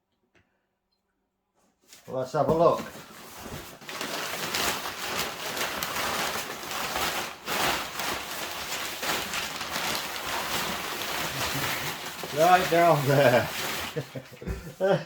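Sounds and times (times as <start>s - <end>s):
cardboard and packing rustling: 1.8s - 15.0s.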